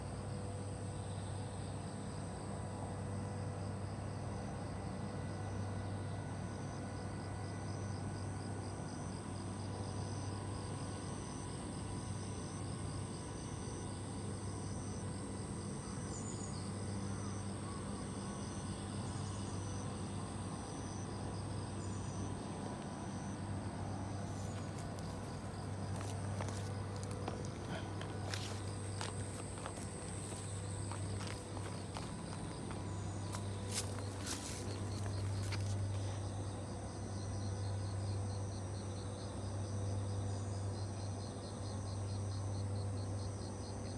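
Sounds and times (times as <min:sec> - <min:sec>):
insects chirping: 0:00.0 - 0:43.9.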